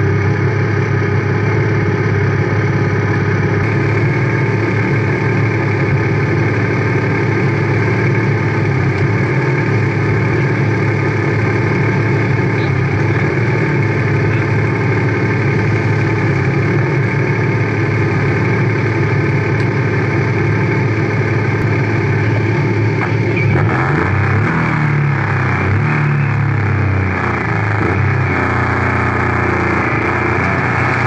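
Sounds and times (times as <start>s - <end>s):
race car engine idling: 0.0s - 31.0s.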